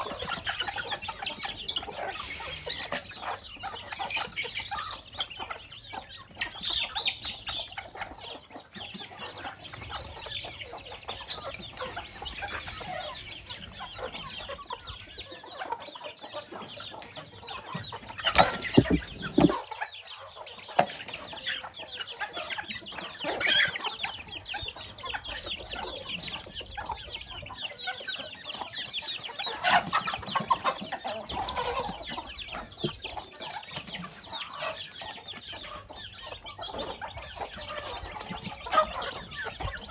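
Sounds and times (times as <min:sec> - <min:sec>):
chicks peeping: 0:00.0 - 0:39.9
hens clucking: 0:00.0 - 0:39.9.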